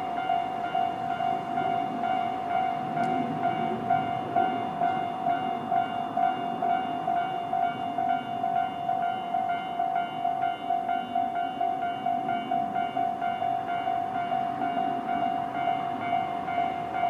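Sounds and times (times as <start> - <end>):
level crossing alarm bells ringing: 0.0 - 17.0.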